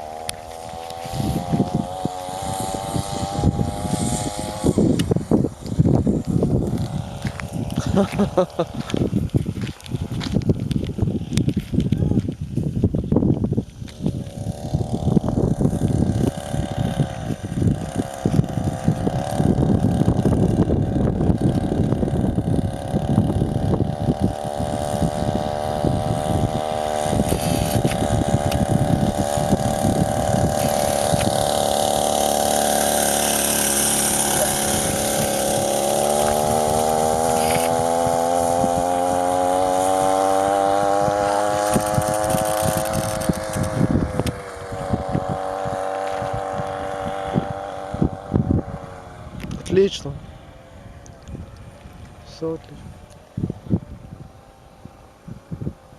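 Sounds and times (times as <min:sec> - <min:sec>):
two-stroke moped engine running: 0:00.0 - 0:55.9.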